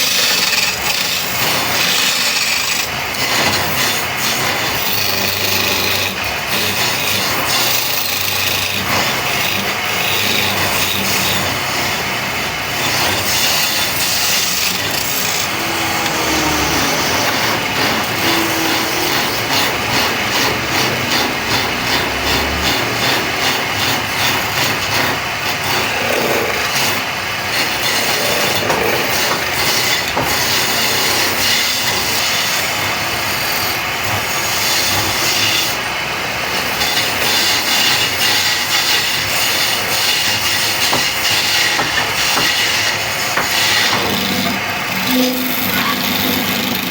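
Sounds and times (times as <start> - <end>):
hand tool rasping on wood: 0.0 - 12.2, 12.8 - 32.5, 36.5 - 46.9
wood lathe running: 0.0 - 46.9.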